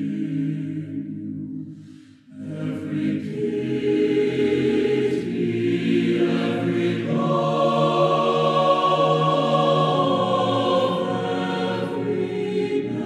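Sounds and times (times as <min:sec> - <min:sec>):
choir singing a hymn: 0:00.0 - 0:01.2, 0:02.3 - 0:13.0.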